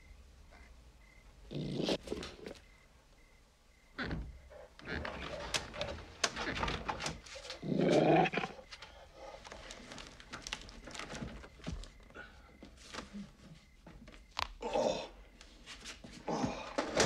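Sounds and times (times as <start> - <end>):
rustling: 0.5 - 14.5.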